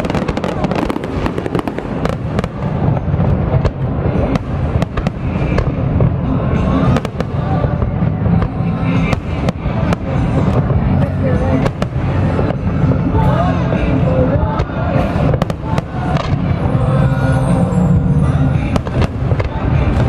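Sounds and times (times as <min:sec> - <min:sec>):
fireworks bangs and crackles: 0:00.0 - 0:20.0
low rumble: 0:00.0 - 0:20.0
music playing: 0:00.0 - 0:20.0.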